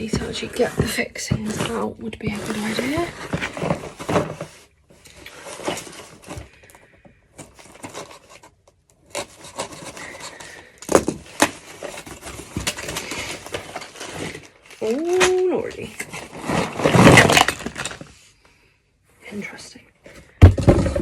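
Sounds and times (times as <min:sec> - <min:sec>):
cabinet parts rubbing and scraping: 0:00.0 - 0:06.6, 0:07.3 - 0:18.2.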